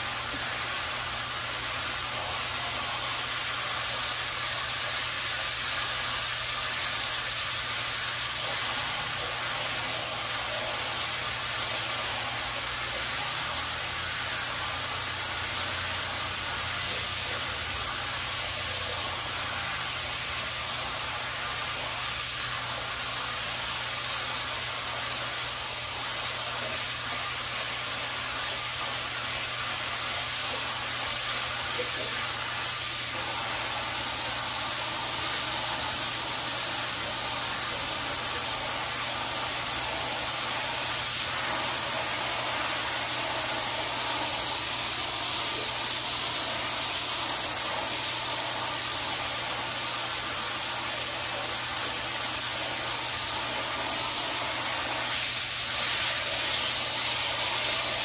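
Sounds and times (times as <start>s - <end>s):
hose spray hissing: 0.0s - 58.0s.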